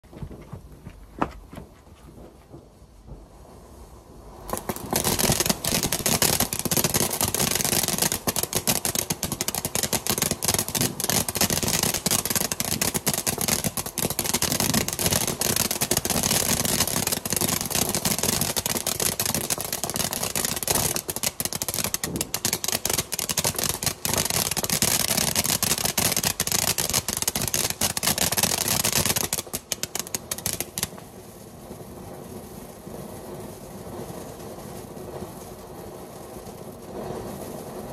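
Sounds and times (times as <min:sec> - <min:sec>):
firework fountain hissing and crackling: 0:00.0 - 0:37.9.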